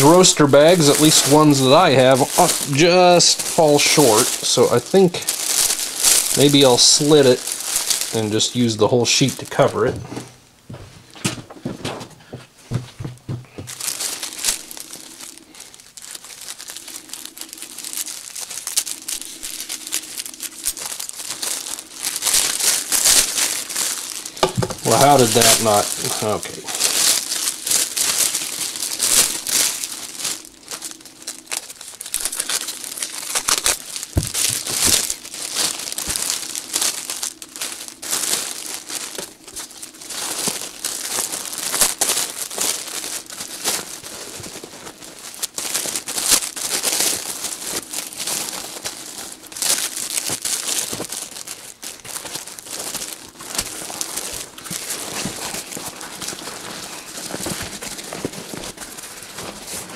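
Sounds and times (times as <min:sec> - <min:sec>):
plastic bag crinkling: 0:00.0 - 0:10.4, 0:11.8 - 0:59.9.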